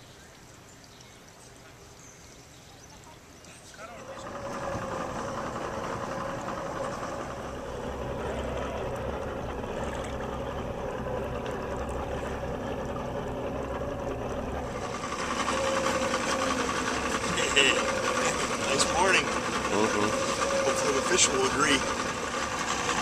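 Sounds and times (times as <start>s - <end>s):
boat motor droning: 3.7s - 23.0s.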